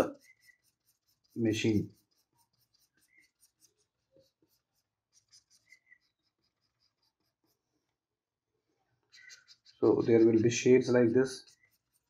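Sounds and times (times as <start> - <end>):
stylus scratching on drawing tablet: 0.0 - 8.0, 8.9 - 12.0.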